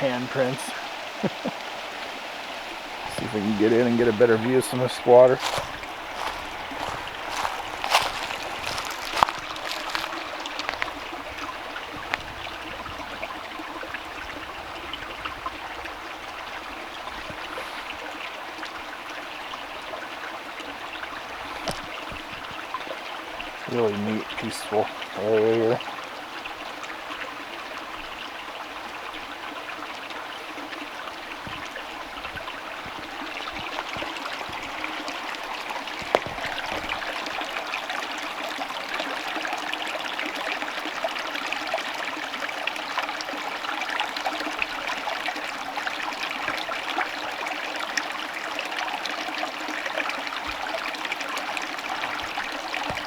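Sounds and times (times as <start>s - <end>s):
stream running over rocks: 0.0s - 53.0s.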